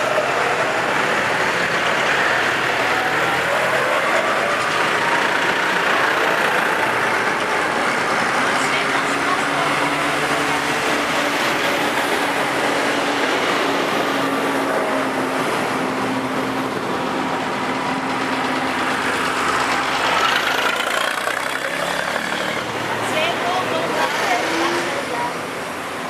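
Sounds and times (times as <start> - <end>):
tractors driving past: 0.0 - 26.0.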